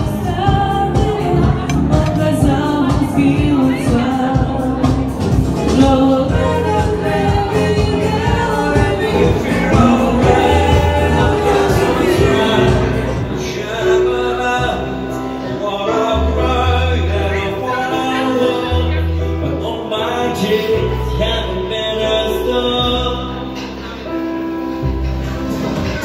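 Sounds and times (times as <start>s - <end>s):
man singing into microphone: 0.0s - 24.2s
deep bass notes: 0.0s - 26.0s.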